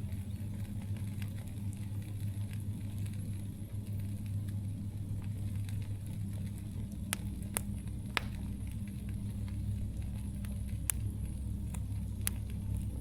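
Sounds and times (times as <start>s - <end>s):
burning wood crackling pops: 0.0s - 13.0s
campfire low rumble: 0.0s - 13.0s.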